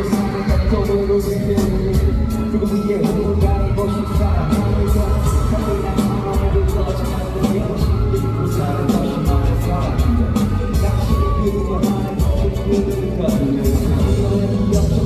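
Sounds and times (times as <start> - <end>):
amplified pop music over speakers: 0.0 - 15.0.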